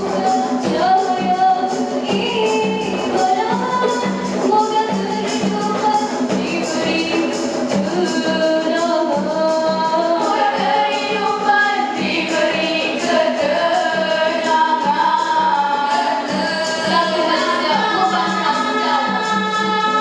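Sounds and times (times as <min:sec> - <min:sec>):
light percussion: 0:00.0 - 0:20.0
women singing in harmony: 0:00.0 - 0:20.0.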